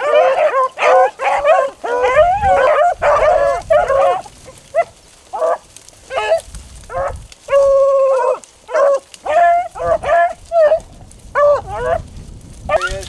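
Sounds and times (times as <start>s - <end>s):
dogs baying: 0.0s - 12.1s.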